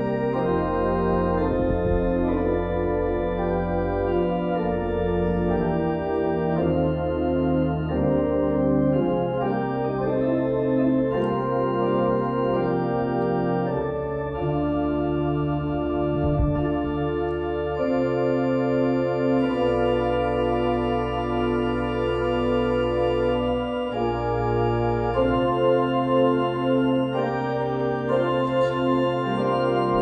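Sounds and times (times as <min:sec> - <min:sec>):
church organ chords: 0:00.0 - 0:30.0.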